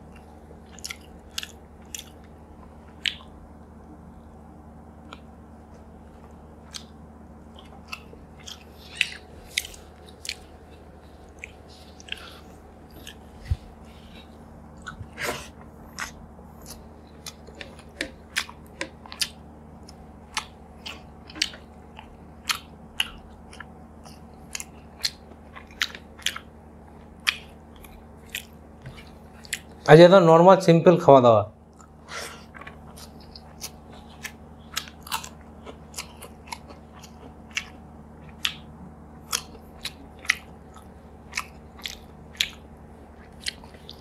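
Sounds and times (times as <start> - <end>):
chewing with mouth clicks: 0.0 - 3.4, 6.2 - 29.9, 31.7 - 44.0
faint steady hum: 0.0 - 44.0.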